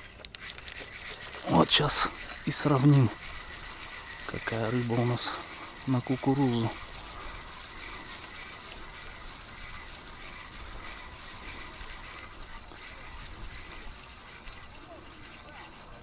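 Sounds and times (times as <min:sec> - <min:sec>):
small waves lapping: 0:00.0 - 0:16.0.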